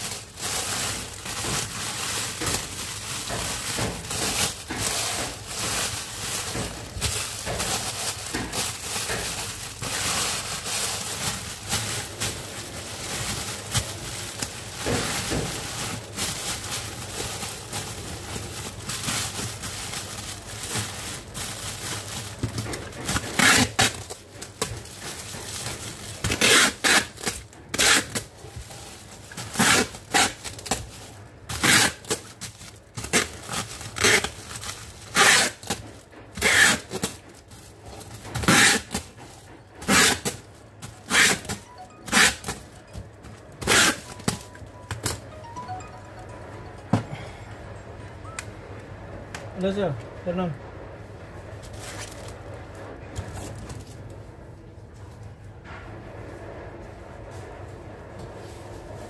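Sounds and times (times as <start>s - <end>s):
cellophane wrap crinkling: 0.0s - 46.8s, 51.6s - 54.2s.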